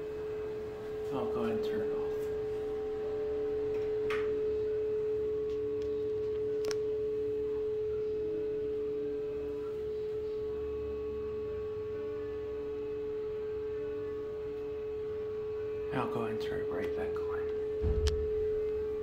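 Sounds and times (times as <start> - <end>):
exhaust fan humming: 0.0 - 19.0.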